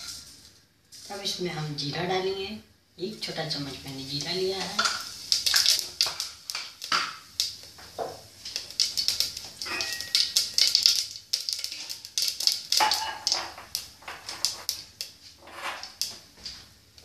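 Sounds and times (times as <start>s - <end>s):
seeds crackling in hot oil: 0.0s - 17.0s.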